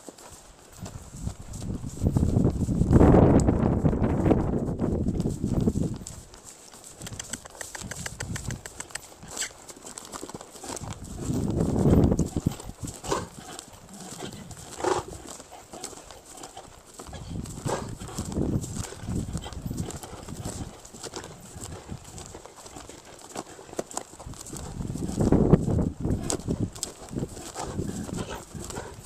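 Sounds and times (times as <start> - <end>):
horse hooves clip-clopping: 0.0 - 29.0.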